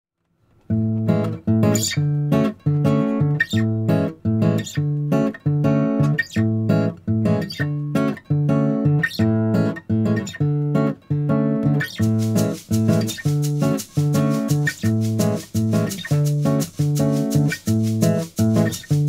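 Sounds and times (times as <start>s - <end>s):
guitar strumming: 0.7s - 19.0s.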